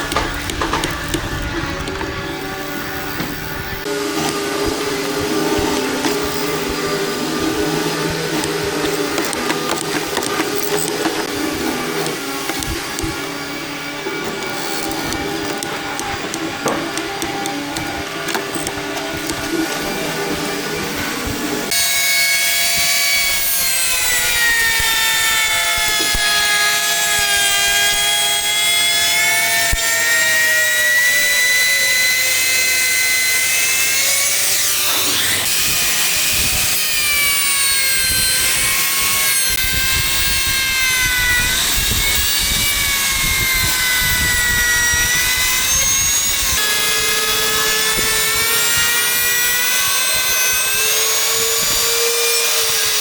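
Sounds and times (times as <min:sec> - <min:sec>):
electric power tool whining: 0:00.0 - 0:53.0.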